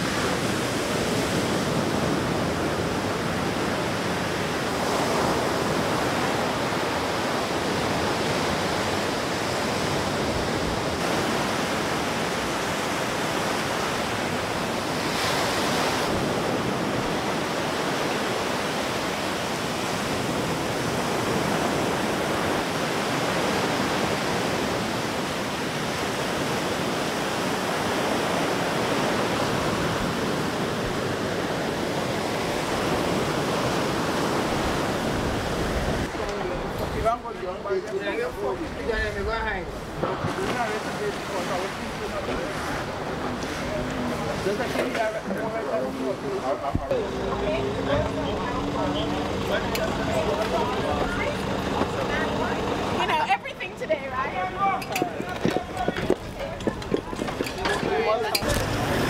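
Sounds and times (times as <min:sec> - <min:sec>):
hurricane wind: 0:00.0 - 0:59.0
surf: 0:00.0 - 0:59.0.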